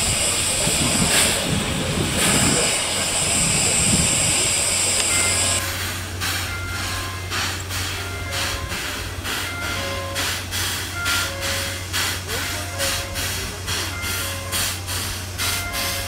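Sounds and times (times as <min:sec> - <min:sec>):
steam hissing: 0:00.0 - 0:16.0.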